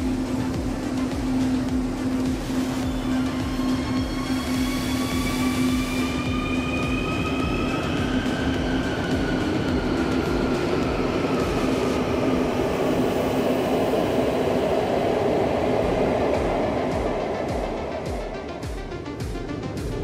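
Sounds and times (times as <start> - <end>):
electric train motor whine: 0.0 - 19.6
steady hum: 0.0 - 20.0
train wheels rumbling: 0.0 - 20.0.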